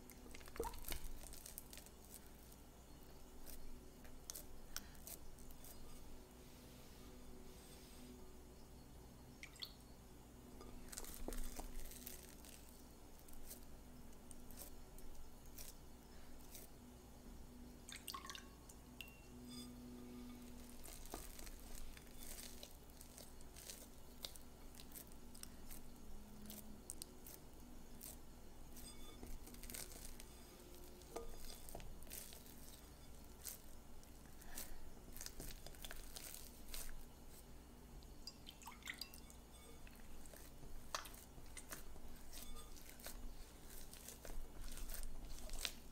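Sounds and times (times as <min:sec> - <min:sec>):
sticky dough squelching: 0:00.0 - 0:06.2, 0:10.7 - 0:16.8, 0:20.2 - 0:45.9.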